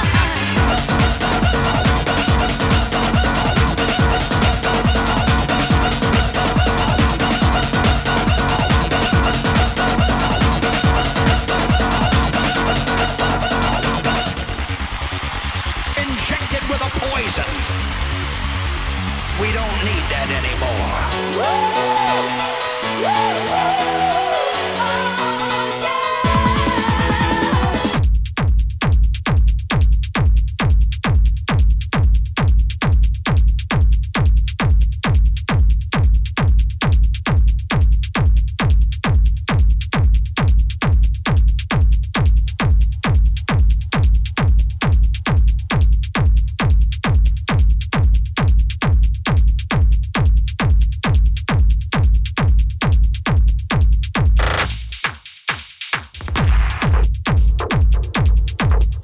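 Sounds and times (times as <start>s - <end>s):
heavy kick drum: 0.0s - 21.2s, 26.2s - 59.0s
hard electronic dance music: 0.0s - 28.5s, 29.1s - 59.0s.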